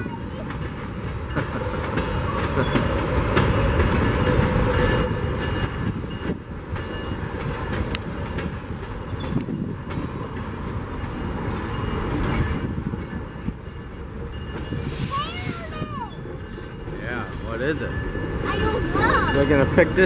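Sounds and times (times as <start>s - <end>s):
train wheels rumbling over rails: 0.0s - 20.0s.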